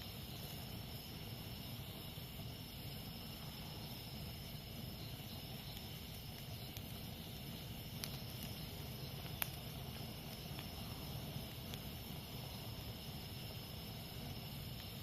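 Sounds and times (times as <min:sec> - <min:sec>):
campfire crackling and popping: 0:00.0 - 0:15.0
insects buzzing: 0:00.0 - 0:15.0.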